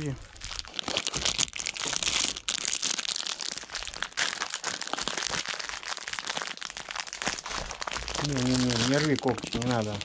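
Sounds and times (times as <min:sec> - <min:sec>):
dense crackling and rustling: 0:00.0 - 0:10.0.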